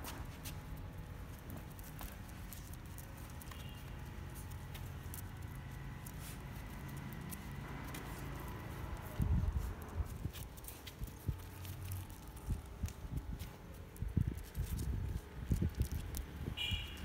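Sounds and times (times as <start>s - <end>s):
paws scuffling on paving stones: 0.0s - 17.0s.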